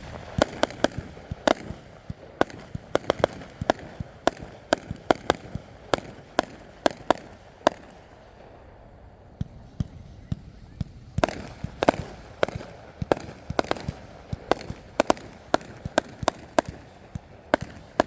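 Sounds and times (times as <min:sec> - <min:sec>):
fireworks cake firing: 0:00.0 - 0:18.0.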